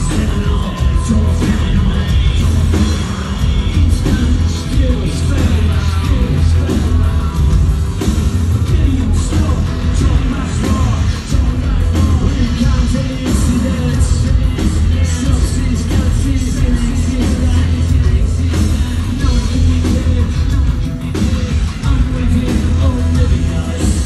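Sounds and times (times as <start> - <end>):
heavy low bass: 0.0 - 24.0
live industrial band playing: 0.0 - 24.0
sung and shouted vocals: 0.0 - 24.0.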